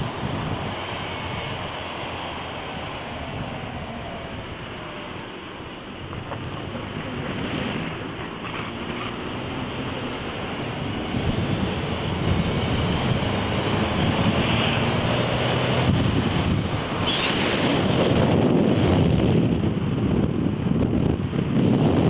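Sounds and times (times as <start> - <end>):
vehicle road and engine noise: 0.0 - 22.0
wind on microphone: 0.0 - 22.0.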